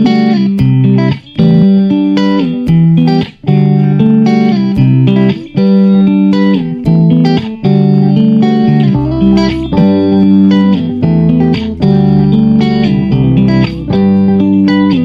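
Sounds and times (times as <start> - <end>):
plucked guitar chords: 0.0 - 15.0.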